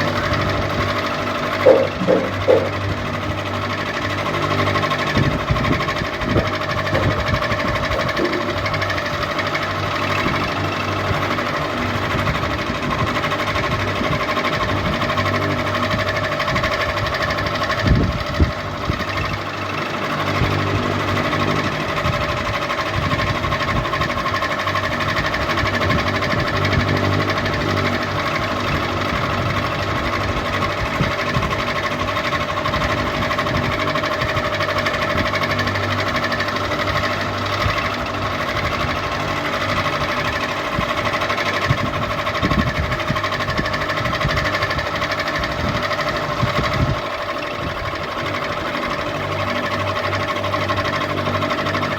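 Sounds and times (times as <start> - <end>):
ceiling fan motor hum: 0.0 - 51.9
fan rattling tick: 0.0 - 51.9.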